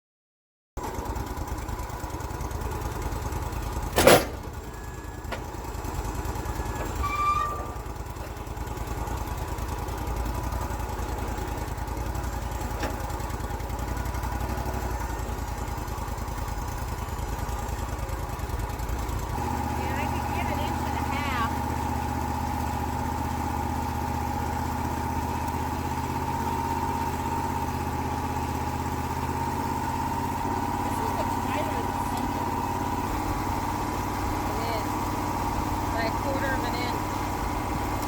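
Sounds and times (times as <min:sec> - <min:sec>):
sawmill engine running: 0:00.8 - 0:38.0.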